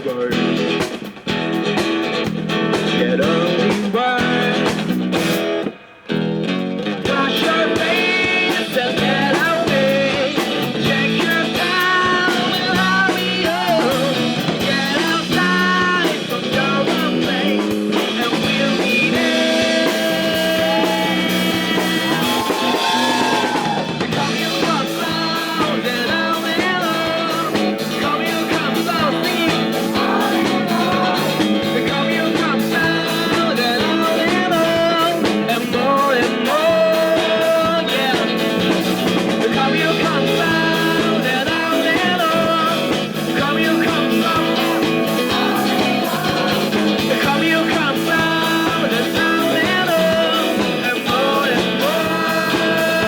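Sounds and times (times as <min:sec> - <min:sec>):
drum kit beat: 0:00.0 - 0:06.0, 0:07.0 - 0:53.0
bass guitar: 0:00.0 - 0:53.0
electric guitar: 0:00.0 - 0:53.0.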